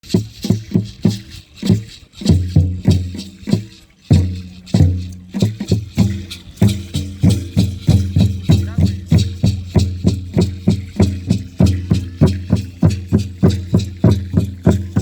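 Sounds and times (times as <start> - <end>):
deep drum strokes: 0.0 - 15.0
dry rattle shaking: 0.0 - 15.0.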